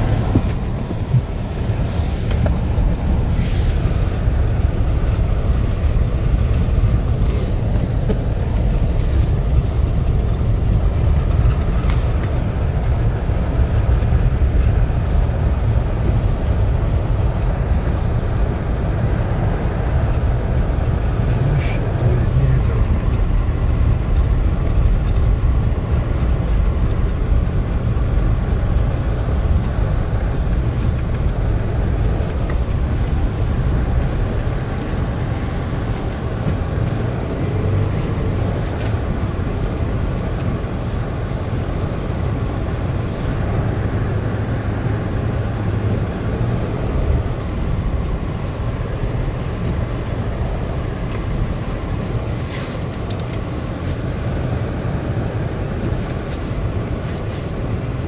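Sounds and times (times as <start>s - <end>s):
low rumble inside driving car: 0.0s - 58.0s.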